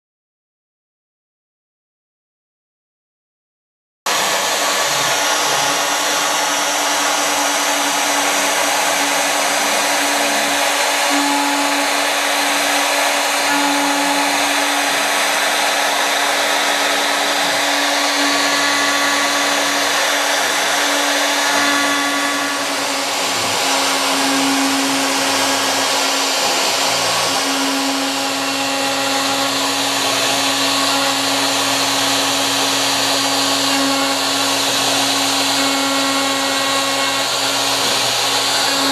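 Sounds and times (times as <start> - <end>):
bit cutting wood: 4.1 - 38.9
cnc router spindle whine: 4.1 - 38.9.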